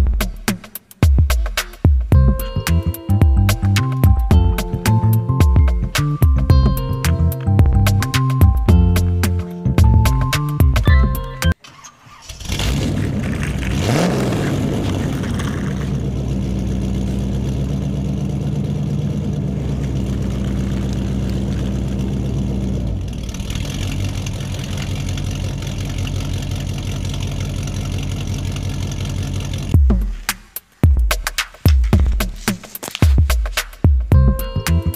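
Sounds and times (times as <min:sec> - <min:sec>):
vehicle engine starting and idling: 0:02.2 - 0:30.3.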